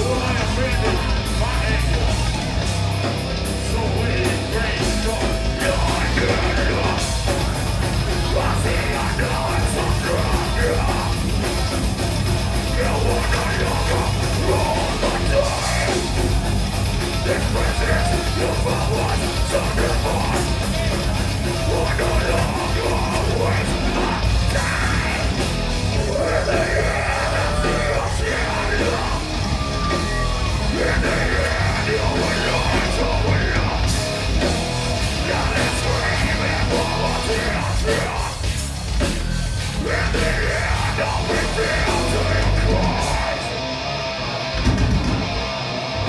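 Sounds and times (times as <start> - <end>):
singer yelling vocals: 0.0 - 44.1
bass guitar: 0.0 - 46.0
distorted electric guitar: 0.0 - 46.0
drums: 0.0 - 46.0.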